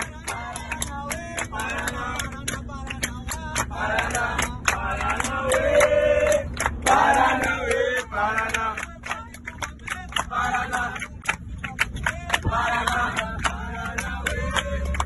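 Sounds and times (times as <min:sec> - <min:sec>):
group singing and chanting: 0:00.0 - 0:15.0
hand clapping: 0:00.0 - 0:15.0
low steady hum: 0:00.0 - 0:15.0.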